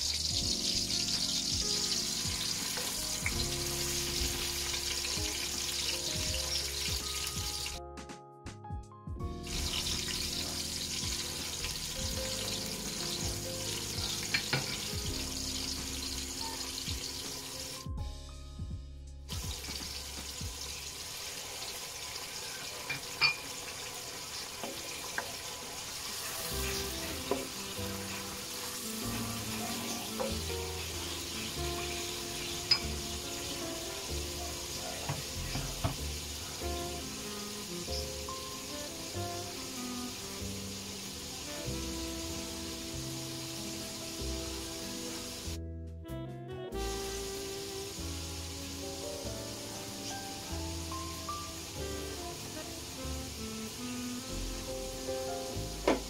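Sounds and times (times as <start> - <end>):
vegetables sizzling in hot oil: 0.0 - 7.8, 9.4 - 17.9, 19.3 - 45.6, 46.8 - 56.0
background music: 0.0 - 21.8, 25.4 - 56.0.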